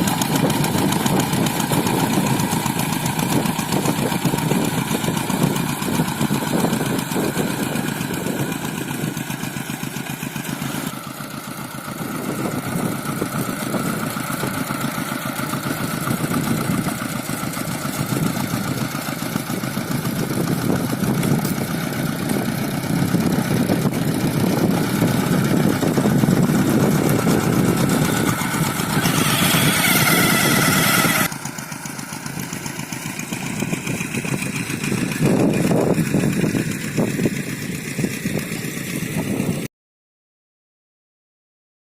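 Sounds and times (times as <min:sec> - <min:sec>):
hand tractor diesel engine running: 0:00.0 - 0:39.7.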